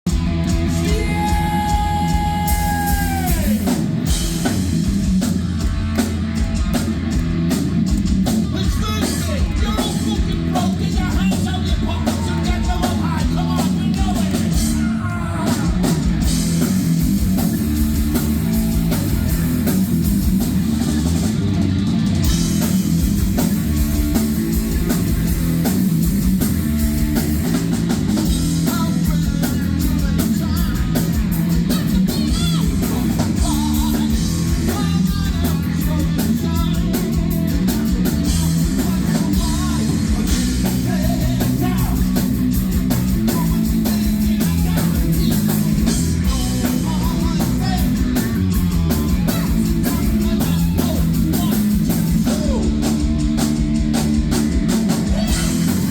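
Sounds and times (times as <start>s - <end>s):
bass guitar: 0.0s - 55.9s
distorted electric guitars: 0.0s - 55.9s
pounding drum kit: 0.0s - 55.9s.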